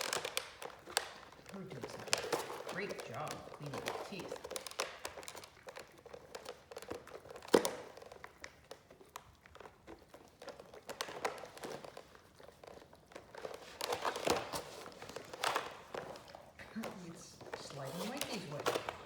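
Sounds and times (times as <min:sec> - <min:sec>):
dogs gnawing on bone: 0:00.0 - 0:19.0.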